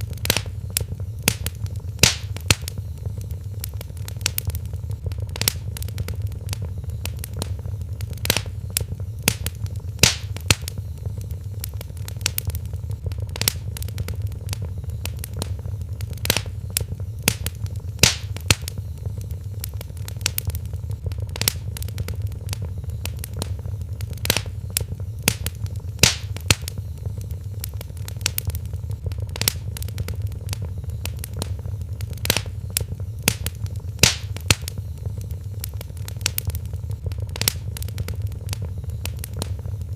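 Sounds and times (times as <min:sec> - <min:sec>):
fire pops and snaps: 0:00.0 - 0:39.9
low rumble of flames: 0:00.0 - 0:39.9.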